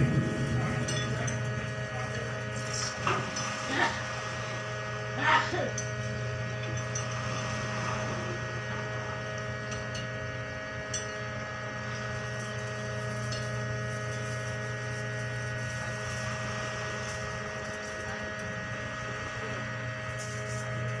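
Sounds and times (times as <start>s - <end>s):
machinery droning hum: 0.0s - 21.0s
steady high machine tones: 0.0s - 21.0s.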